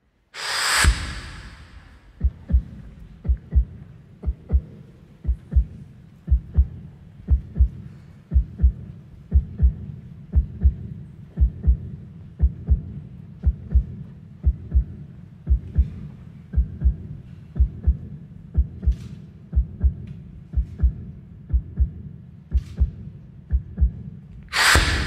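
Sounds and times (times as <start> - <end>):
heartbeat double thumps: 0.8 - 25.0.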